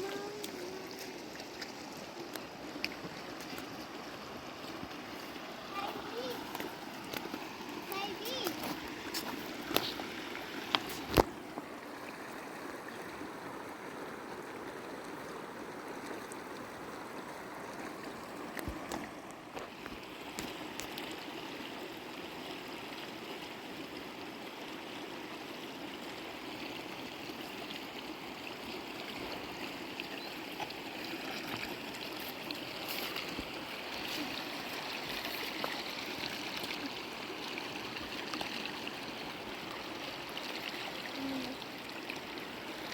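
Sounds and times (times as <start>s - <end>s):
river water flowing: 0.0s - 42.9s.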